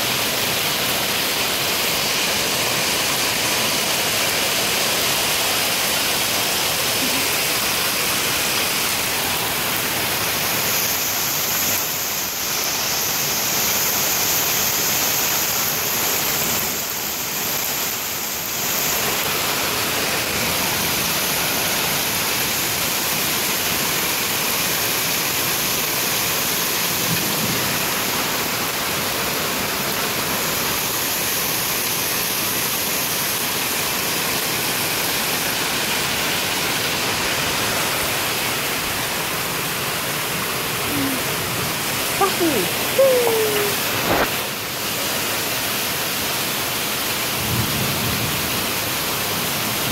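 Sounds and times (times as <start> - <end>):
heavy rain and hail: 0.0 - 49.9.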